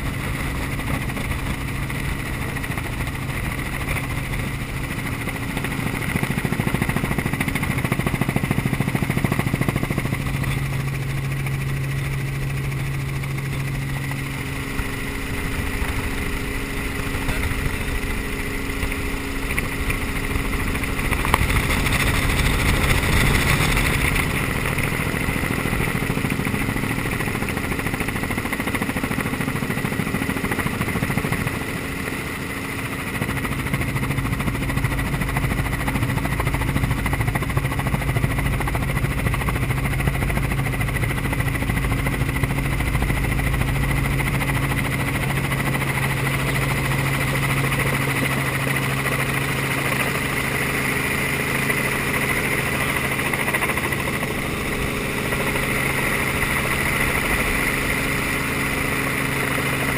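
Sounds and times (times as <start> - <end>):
helicopter engine and rotors droning: 0.0 - 59.9.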